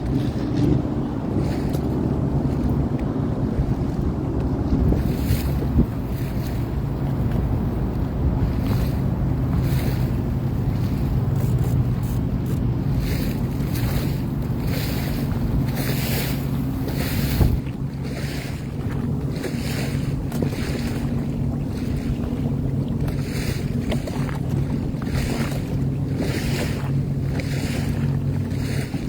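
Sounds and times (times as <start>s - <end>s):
boat engine running: 0.0s - 29.0s
water rushing past hull: 0.0s - 29.0s
wind on microphone: 0.0s - 29.0s.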